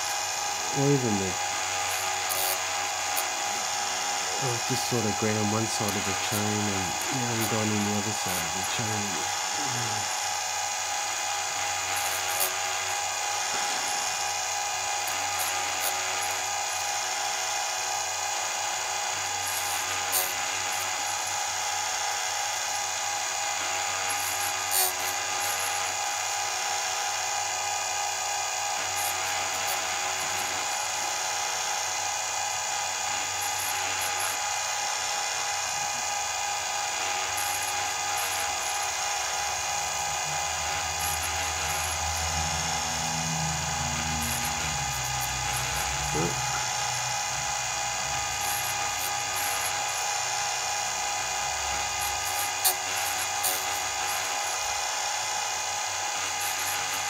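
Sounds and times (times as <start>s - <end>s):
chain sharpener grinding: 0.0s - 57.0s.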